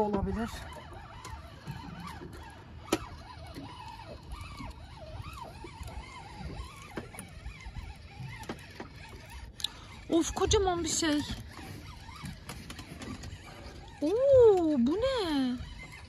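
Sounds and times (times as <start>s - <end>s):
fishing reel whirring: 0.0s - 16.0s.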